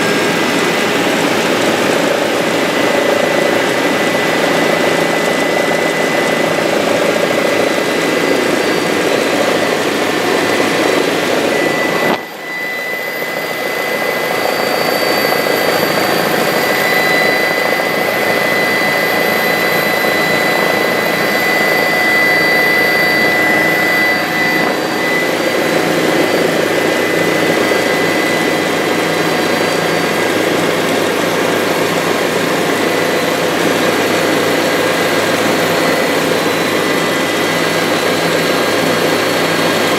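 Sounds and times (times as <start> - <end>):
helicopter rotor drone: 0.0 - 39.9
helicopter turbine whine: 0.0 - 39.9.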